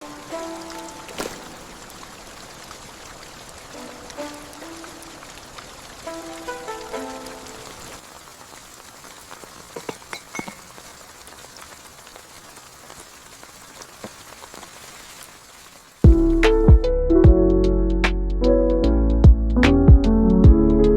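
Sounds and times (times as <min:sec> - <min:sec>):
raindrops ticking: 0:00.0 - 0:16.9
steady rain falling: 0:00.0 - 0:16.9.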